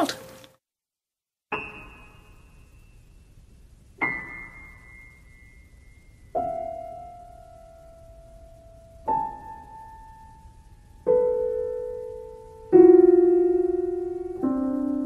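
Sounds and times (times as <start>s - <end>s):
piano notes ringing: 1.5s - 15.0s.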